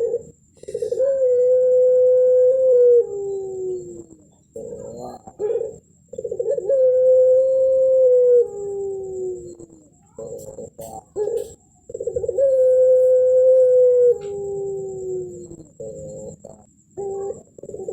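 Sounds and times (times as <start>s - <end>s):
dove cooing: 0.0s - 17.9s.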